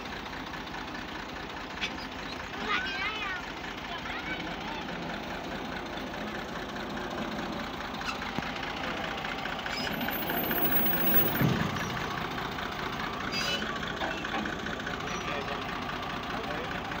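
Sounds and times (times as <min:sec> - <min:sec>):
diesel tractor engine idling: 0:00.0 - 0:17.0.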